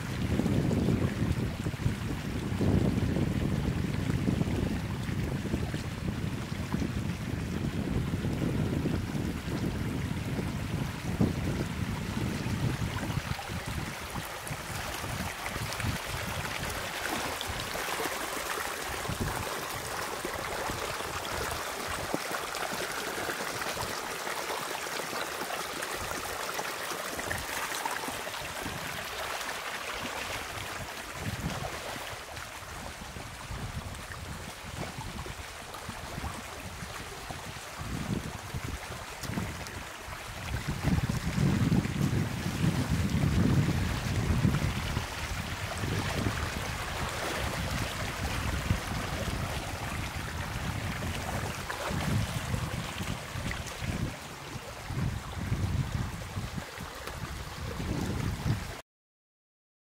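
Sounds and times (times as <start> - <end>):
wind buffeting microphone: 0.0 - 24.1, 27.2 - 29.2, 30.3 - 58.8
running water: 0.0 - 58.8.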